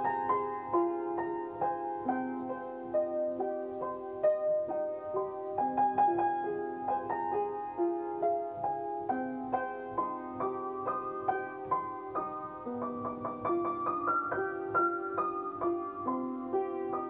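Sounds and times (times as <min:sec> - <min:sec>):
upright piano melody: 0:00.0 - 0:17.0.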